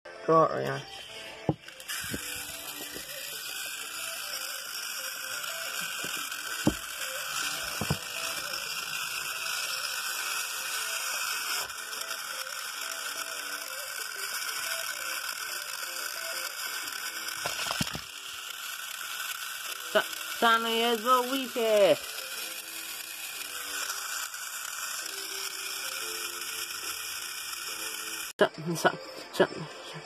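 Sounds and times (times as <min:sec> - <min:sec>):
toy train motors whirring: 0:00.1 - 0:30.0.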